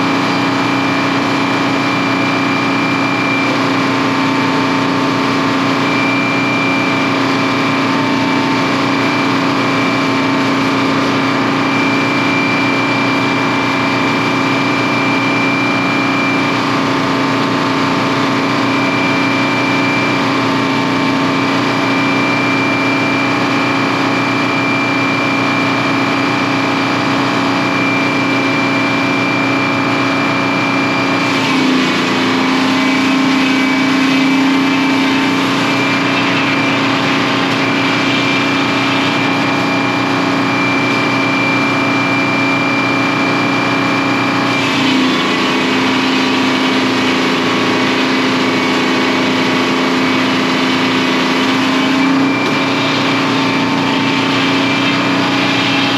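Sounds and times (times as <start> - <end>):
diesel engine running: 0.0 - 55.9
thin high whine: 0.0 - 55.9.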